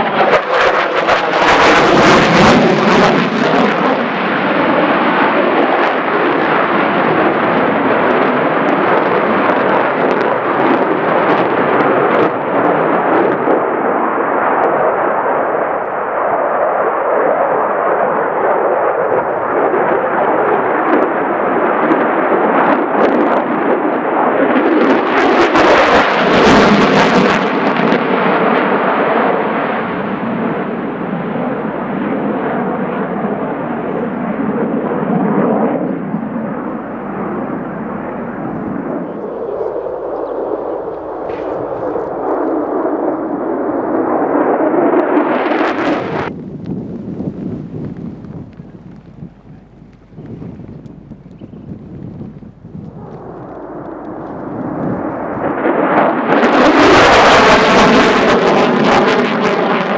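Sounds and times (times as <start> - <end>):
fighter jet roaring: 0.0 - 59.9.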